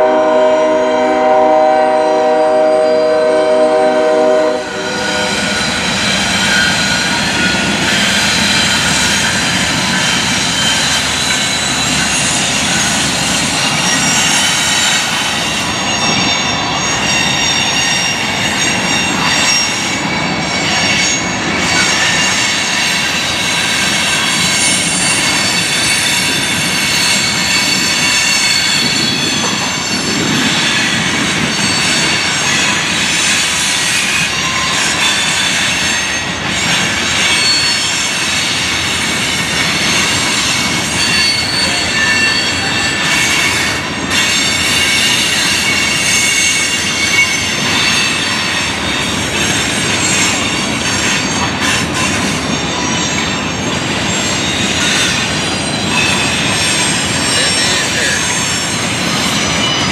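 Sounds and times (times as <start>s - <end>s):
train wheels squealing: 0.0s - 59.9s
wheels rumbling on rails: 2.3s - 59.9s.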